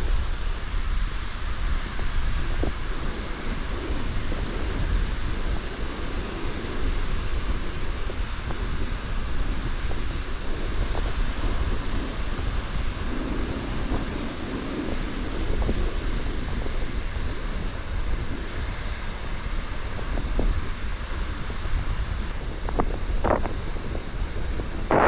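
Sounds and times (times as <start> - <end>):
heavy low rumble: 0.0 - 25.0
rushing sea water: 0.0 - 25.0
wind buffeting microphone: 0.0 - 25.0.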